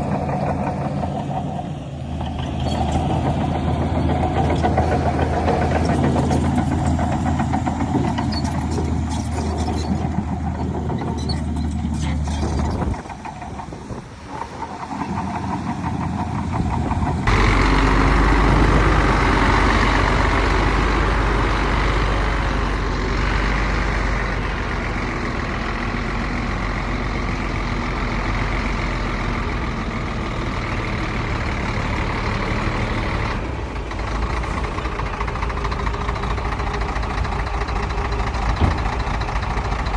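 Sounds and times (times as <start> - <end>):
heavy diesel machinery engine: 0.0 - 39.9.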